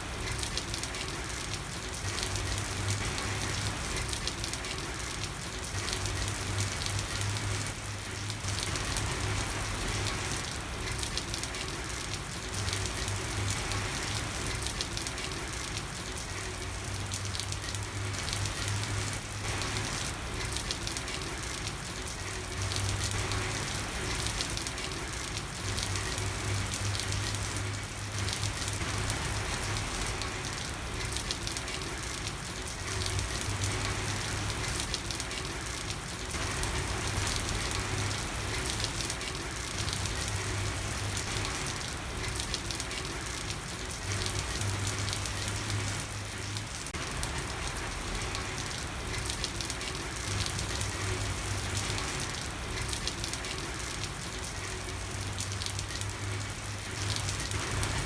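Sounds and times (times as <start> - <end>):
rain pattering on a street: 0.0 - 58.0.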